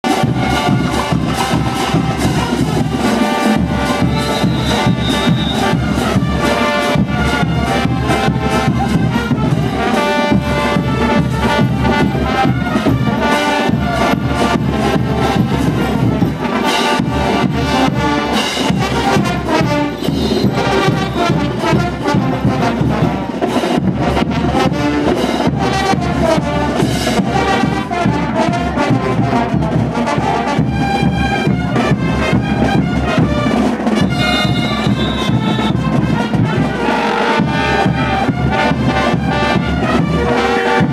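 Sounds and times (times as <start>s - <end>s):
drums and cymbals beat: 0.0s - 40.9s
trumpets and trombones: 0.0s - 40.9s.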